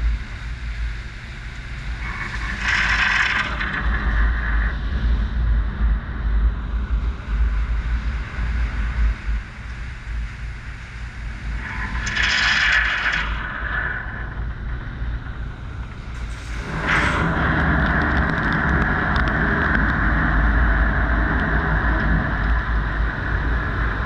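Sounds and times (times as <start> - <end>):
low motor hum: 0.0 - 24.0.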